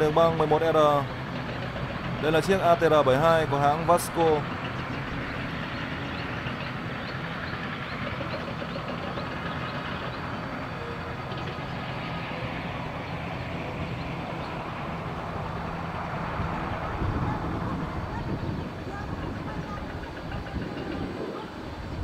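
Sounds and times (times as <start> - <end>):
distant turboprop engines droning: 0.0 - 22.0.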